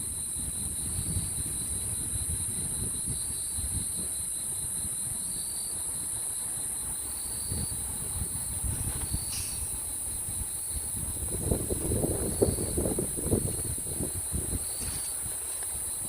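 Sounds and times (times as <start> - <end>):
insects trilling: 0.0 - 16.0
wind rumble on microphone: 0.0 - 16.0.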